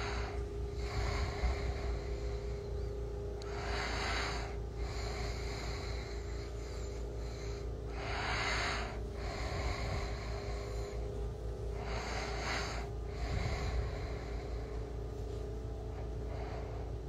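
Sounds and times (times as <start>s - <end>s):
person breathing into microphone: 0.0s - 17.0s
steady low hum: 0.0s - 17.0s.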